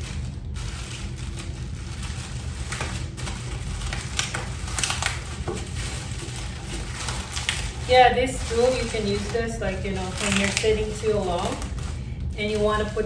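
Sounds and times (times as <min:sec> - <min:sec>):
clicks and rustles of handling packaging: 0:00.0 - 0:13.0
steady low hum: 0:00.0 - 0:13.0.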